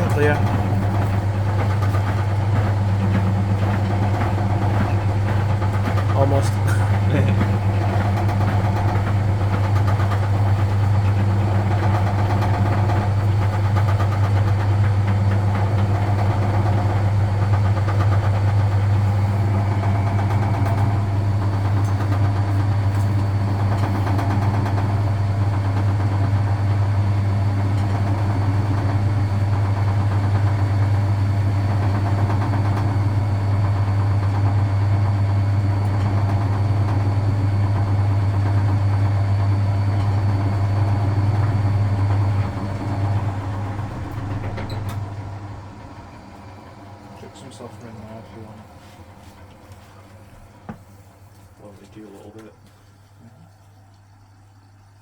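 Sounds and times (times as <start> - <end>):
washing machine drum churning: 0.0 - 55.0
washing machine motor hum: 0.0 - 55.0.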